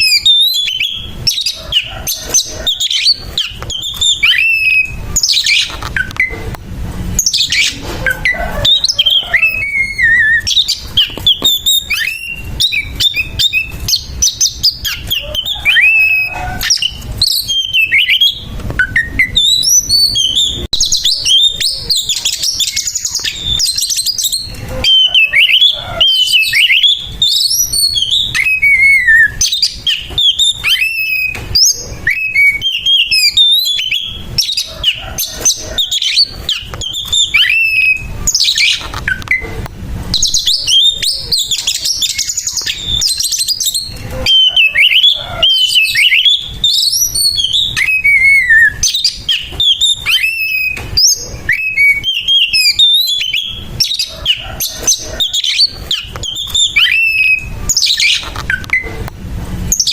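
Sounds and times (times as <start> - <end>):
songbird singing whistles and trills: 0.0 - 6.5, 7.2 - 59.0.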